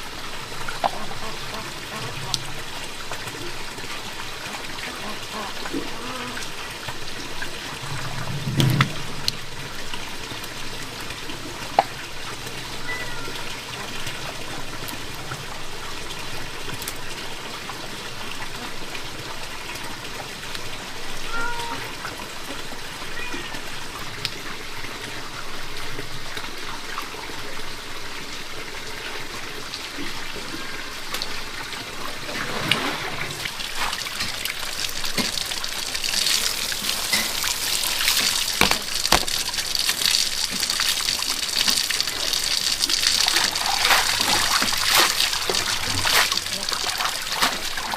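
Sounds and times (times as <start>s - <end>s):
steady rain: 0.0s - 47.9s
water trickling: 0.0s - 47.9s.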